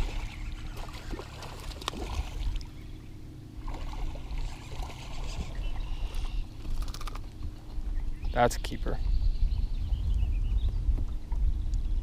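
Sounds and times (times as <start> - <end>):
water sloshing around boat: 0.0 - 10.0
steady low hum: 0.0 - 12.0.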